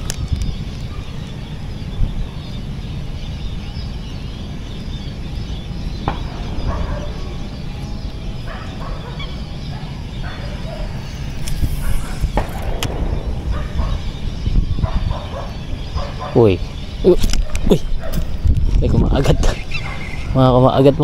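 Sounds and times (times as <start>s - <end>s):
bird calling: 0.0s - 21.0s
wind rumbling on microphone: 0.0s - 21.0s.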